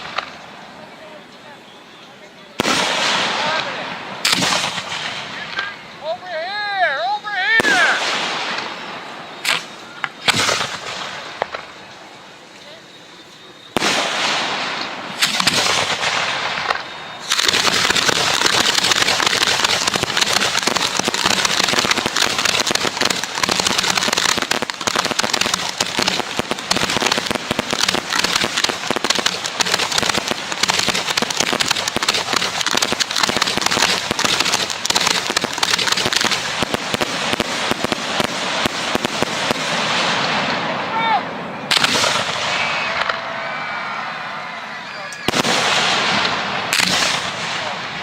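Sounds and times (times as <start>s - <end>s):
fireworks crackling: 0.0s - 48.0s.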